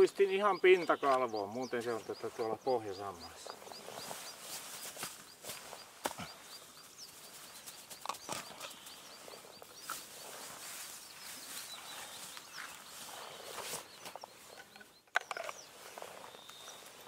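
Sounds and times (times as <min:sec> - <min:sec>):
brush rustling: 0:00.0 - 0:17.0
sharp clicks of shrubs: 0:00.0 - 0:17.0.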